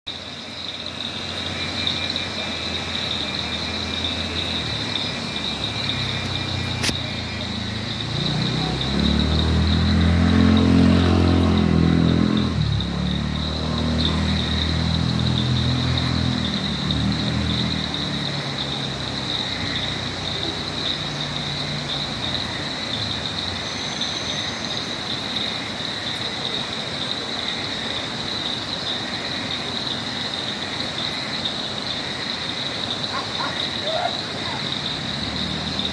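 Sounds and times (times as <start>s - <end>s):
insects trilling: 0.1s - 35.9s
vehicle engine: 0.1s - 35.9s.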